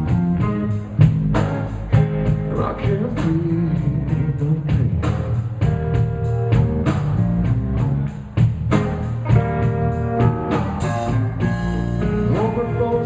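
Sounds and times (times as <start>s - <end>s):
blues band playing: 0.0s - 13.0s.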